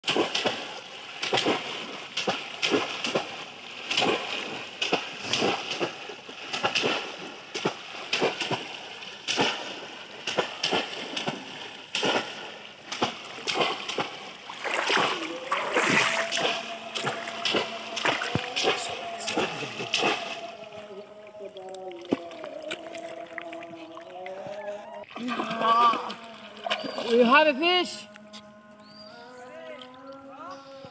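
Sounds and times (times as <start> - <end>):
heavy splashing in shallow water: 0.0 - 28.1.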